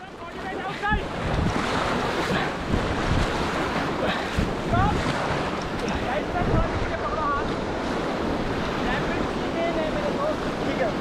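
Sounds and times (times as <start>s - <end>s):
rushing river water: 0.0s - 11.0s
wind buffeting the microphone: 0.0s - 11.0s.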